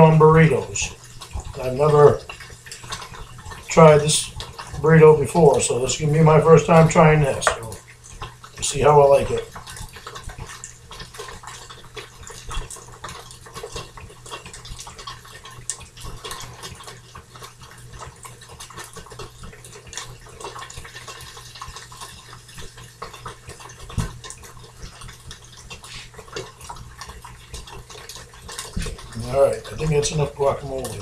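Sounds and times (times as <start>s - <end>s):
food frying in a hot pan: 0.0s - 31.0s.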